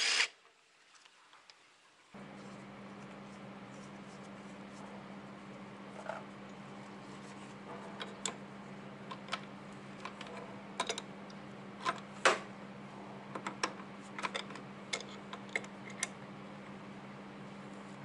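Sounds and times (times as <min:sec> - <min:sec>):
steady low hum: 0:02.2 - 0:18.0.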